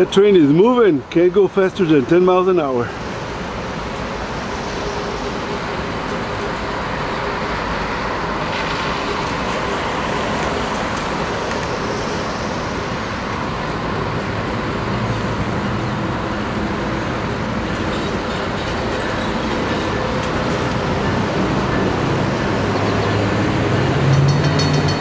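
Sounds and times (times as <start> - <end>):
cars passing on road: 0.0 - 25.0
freight train rolling on rails: 0.0 - 25.0
locomotive humming: 0.0 - 25.0.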